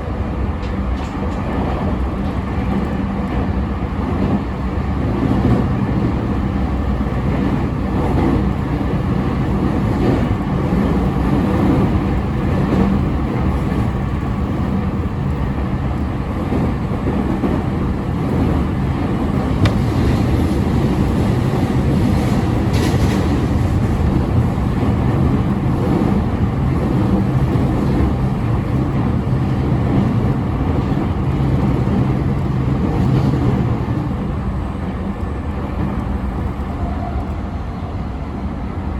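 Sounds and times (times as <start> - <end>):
wheels rumbling on rail: 0.0 - 38.9.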